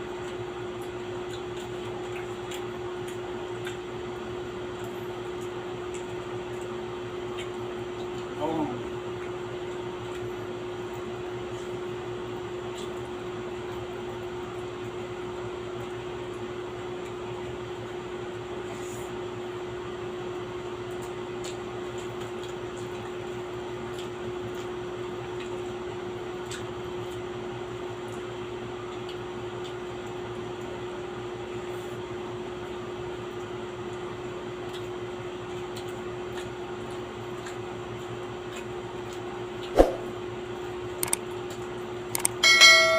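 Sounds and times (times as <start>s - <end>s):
clicks and taps of eating: 0.0s - 18.5s, 20.4s - 31.0s, 32.6s - 39.7s
electric appliance hum: 0.0s - 42.9s.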